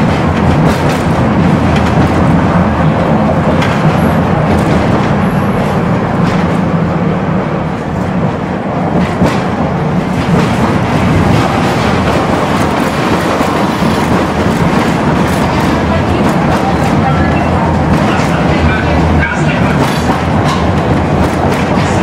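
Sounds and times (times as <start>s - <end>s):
tram wheels rumbling: 0.0s - 22.0s.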